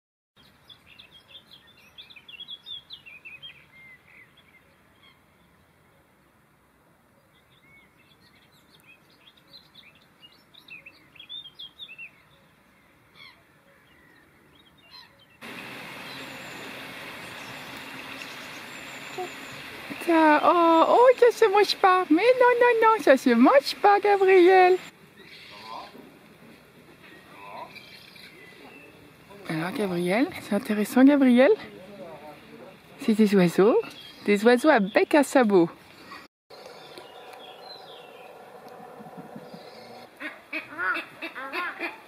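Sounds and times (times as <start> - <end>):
songbirds chirping: 0.4 - 42.0.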